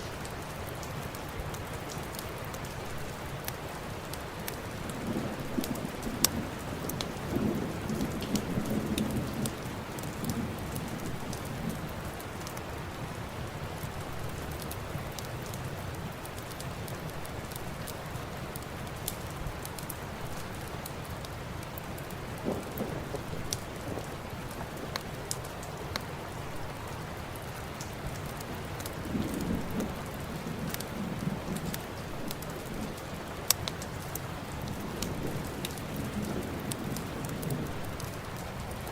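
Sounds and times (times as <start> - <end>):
fire crackling and popping: 0.0 - 38.9
steady rain: 0.0 - 38.9.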